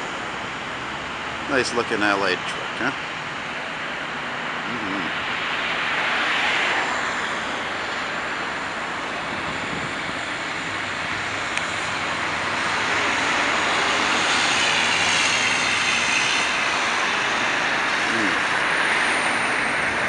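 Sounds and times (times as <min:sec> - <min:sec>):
highway traffic: 0:00.0 - 0:20.0.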